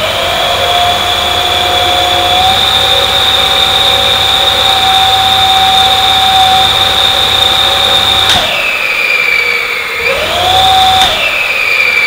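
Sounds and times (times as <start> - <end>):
electric motor high whine: 0.0 - 12.0.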